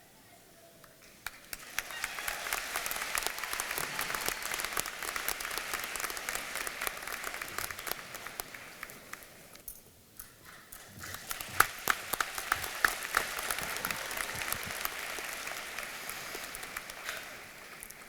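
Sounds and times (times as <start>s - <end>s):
audience applauding: 1.2s - 9.7s, 10.8s - 18.0s.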